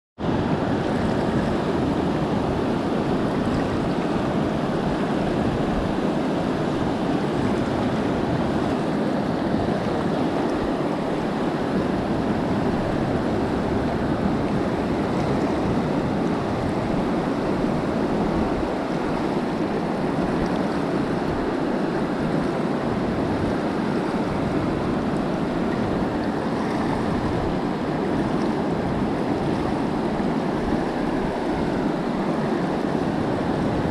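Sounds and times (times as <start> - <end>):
river water rushing over boulders: 0.2 - 33.9.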